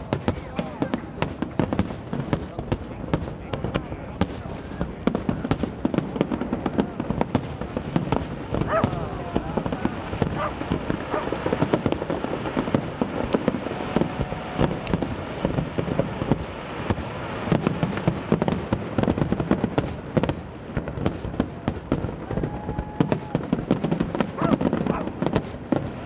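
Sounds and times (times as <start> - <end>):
fireworks banging and crackling: 0.0 - 26.0.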